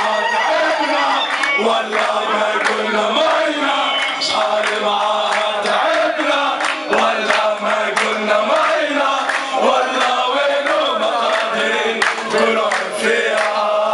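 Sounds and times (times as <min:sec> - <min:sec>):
crowd of men chanting: 0:00.0 - 0:13.9
hands clapping: 0:00.0 - 0:13.9.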